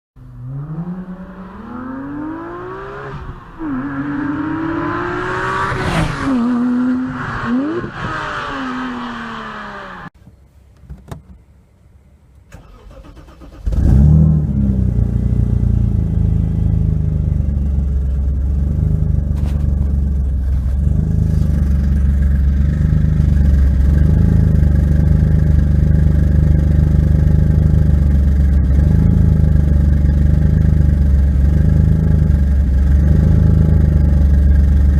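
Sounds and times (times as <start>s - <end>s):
car engine revving: 0.2s - 10.2s, 12.6s - 34.9s.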